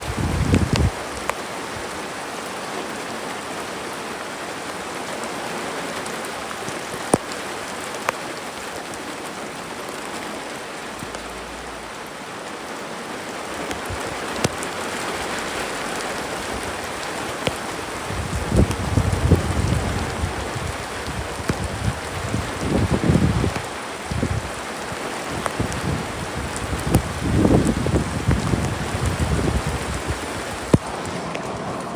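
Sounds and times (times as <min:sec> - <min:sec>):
rain pattering: 0:00.0 - 0:31.9.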